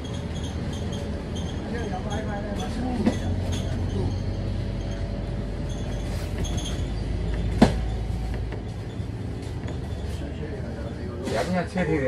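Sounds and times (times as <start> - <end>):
bus engine and road drone: 0.0 - 12.0.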